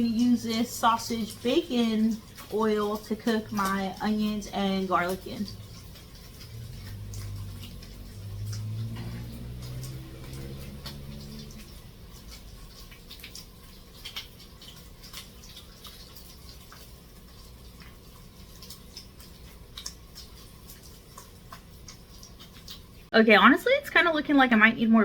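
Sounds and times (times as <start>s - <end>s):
bacon frying in a pan: 0.0s - 24.4s.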